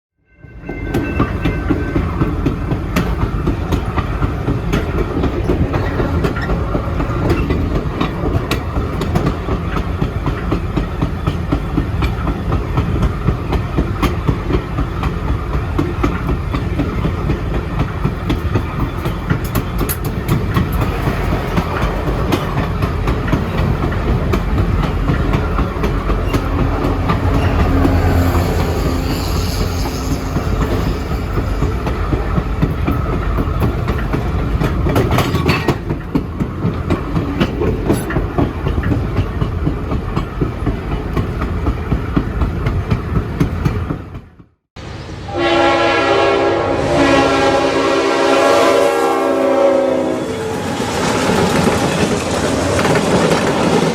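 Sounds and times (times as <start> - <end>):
train rumble: 0.4 - 53.9
wheels clacking over rail joints: 1.0 - 44.4.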